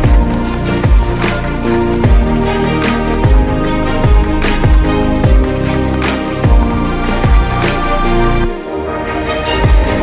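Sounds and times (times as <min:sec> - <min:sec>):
sustained music chords: 0:00.0 - 0:10.0.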